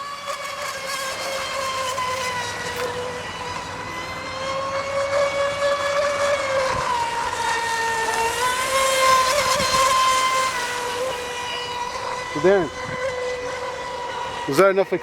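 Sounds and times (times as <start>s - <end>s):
rc boat electric whine: 0.0s - 15.0s.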